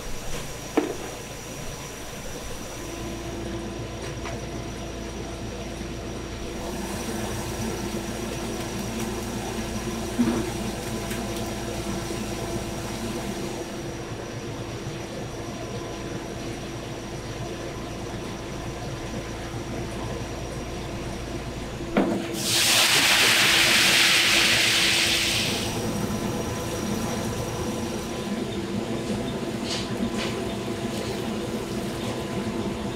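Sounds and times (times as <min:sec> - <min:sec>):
workshop machinery humming: 0:00.0 - 0:32.9.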